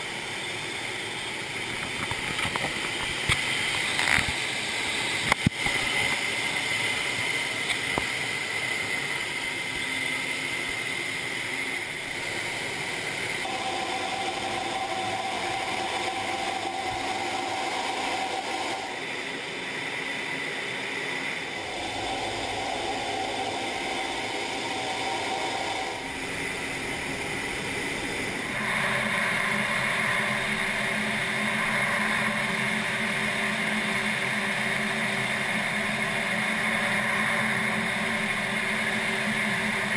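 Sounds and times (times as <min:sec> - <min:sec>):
jet engine and rushing airflow: 0:00.0 - 0:39.9
steady whine: 0:00.0 - 0:39.9.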